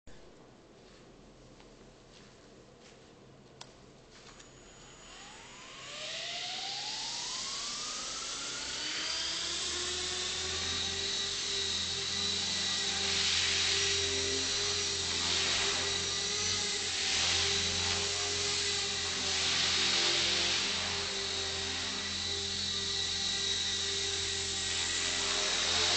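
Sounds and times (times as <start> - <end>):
rc helicopter motor whine: 4.4 - 25.9.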